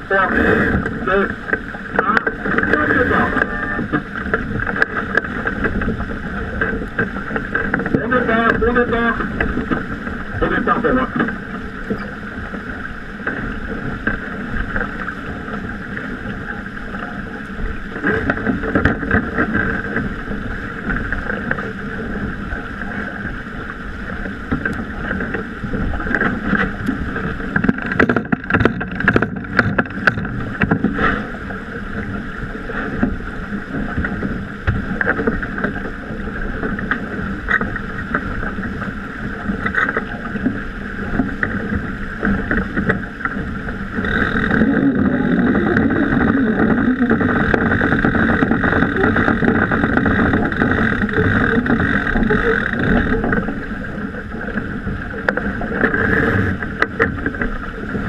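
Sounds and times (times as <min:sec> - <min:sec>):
water rushing along a boat hull: 0:00.0 - 0:58.0
wind buffeting microphone: 0:00.0 - 0:58.0.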